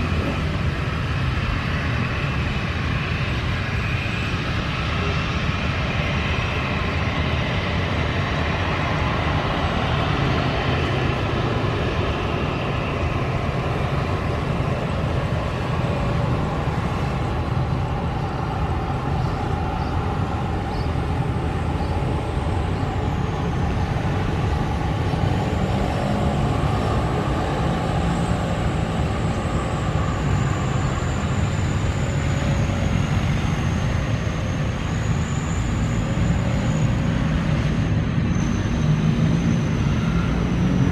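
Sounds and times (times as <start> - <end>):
high engine whine: 0.0 - 40.9
jet engines rumbling: 0.0 - 40.9.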